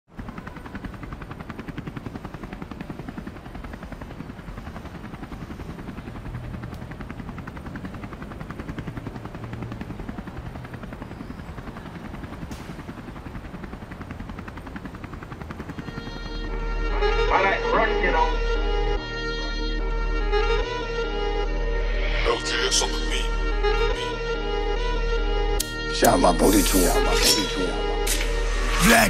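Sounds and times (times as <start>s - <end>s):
helicopter rotor chop: 0.1s - 29.0s.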